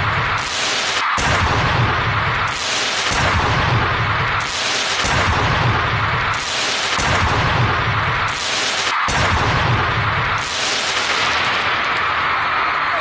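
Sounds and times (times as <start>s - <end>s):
pyrotechnic bangs: 0.0s - 12.6s.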